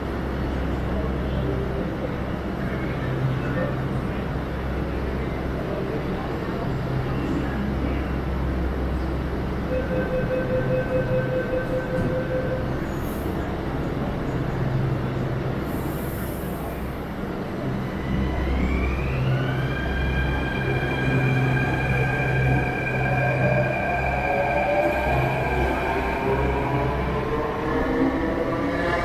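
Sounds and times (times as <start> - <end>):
train low hum: 0.0 - 29.0.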